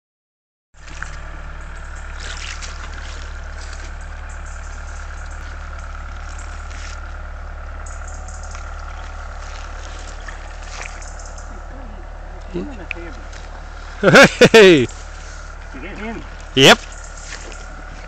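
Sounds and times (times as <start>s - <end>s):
low microphone rumble: 0.8s - 18.0s
river water flowing: 0.8s - 18.0s
thin steady whine: 0.8s - 18.0s.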